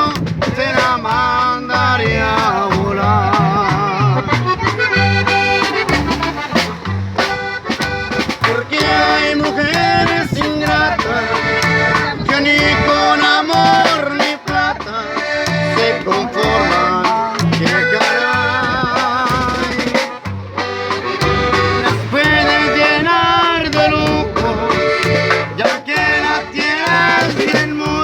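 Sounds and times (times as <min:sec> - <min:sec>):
accordion melody: 0:00.0 - 0:28.0
steady drum beat: 0:00.0 - 0:28.0
walking bass: 0:00.0 - 0:28.0.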